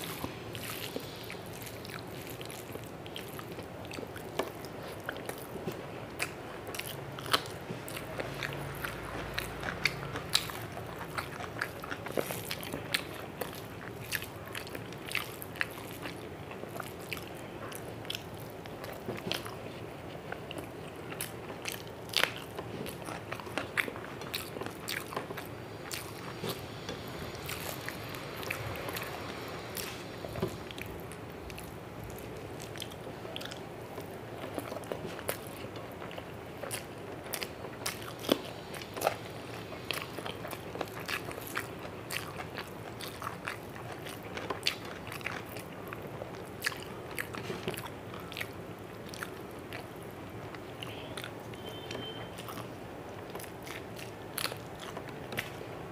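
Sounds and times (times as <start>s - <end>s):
wet chewing and mouth clicks: 0.0s - 55.9s.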